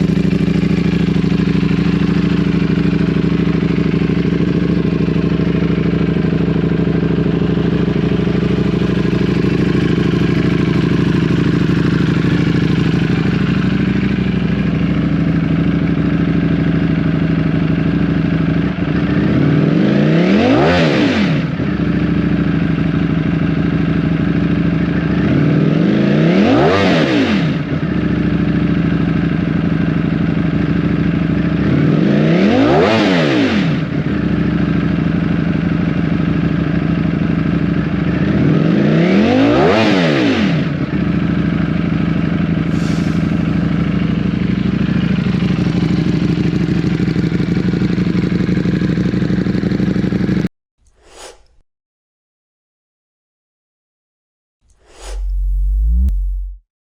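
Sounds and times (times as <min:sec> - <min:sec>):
motorcycle engine idling and revving: 0:00.0 - 0:50.5, 0:54.8 - 0:56.6.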